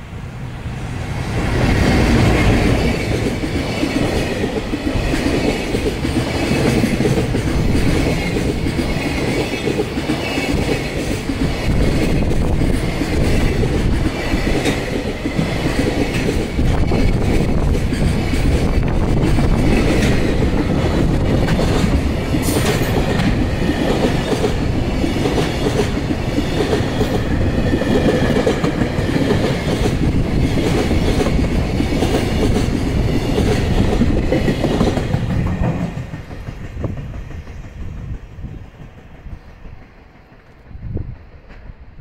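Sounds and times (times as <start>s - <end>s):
freight train wheels clattering: 1.3s - 41.9s.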